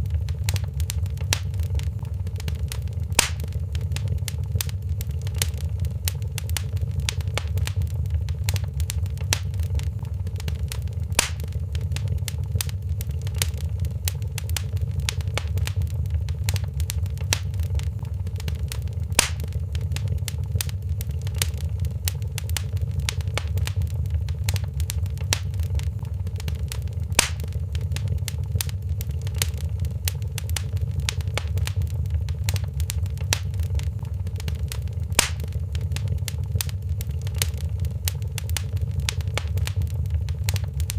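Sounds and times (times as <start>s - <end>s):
loud fire pops: 0.0s - 40.9s
wood fire crackling: 0.0s - 40.9s.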